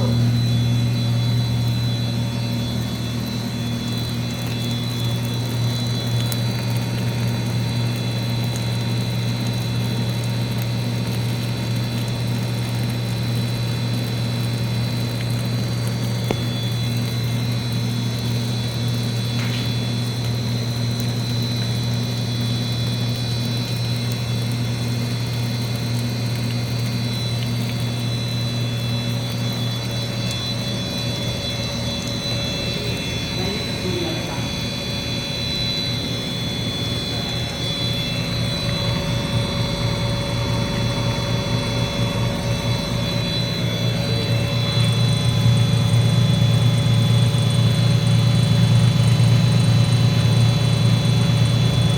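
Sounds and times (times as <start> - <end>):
extruder motor humming with whine: 0.0 - 51.9.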